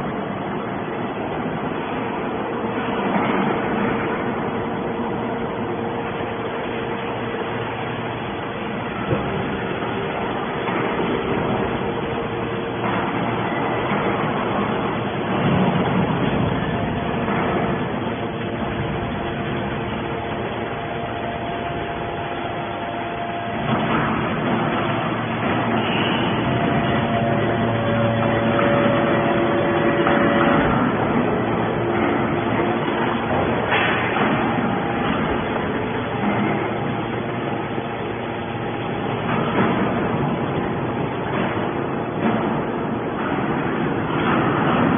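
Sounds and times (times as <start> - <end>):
faint steady whine: 0.0 - 44.9
hydraulic baler mechanical drone: 0.0 - 44.9.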